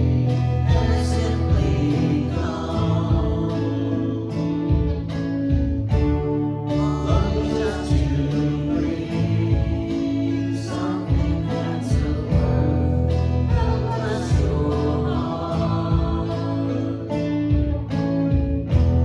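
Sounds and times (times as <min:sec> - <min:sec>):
voices singing: 0:00.0 - 0:18.1
worship band playing: 0:00.0 - 0:19.0.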